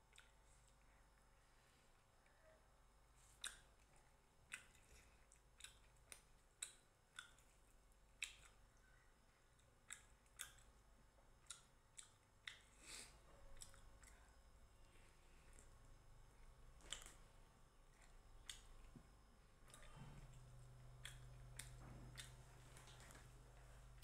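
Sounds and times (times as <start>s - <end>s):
person chewing with wet smacks: 0.0s - 2.4s, 3.0s - 24.0s.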